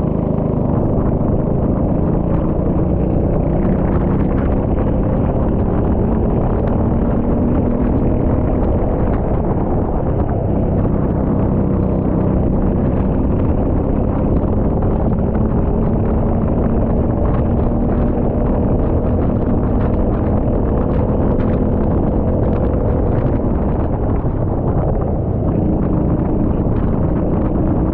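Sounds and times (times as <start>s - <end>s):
go-kart engine running: 0.0s - 27.9s.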